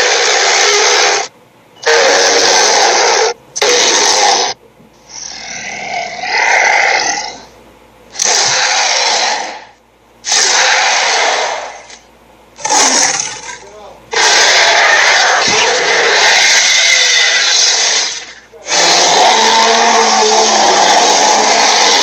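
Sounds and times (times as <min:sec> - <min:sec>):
cartoon dinosaur roars: 0:00.0 - 0:07.5, 0:08.1 - 0:11.8, 0:12.6 - 0:22.0.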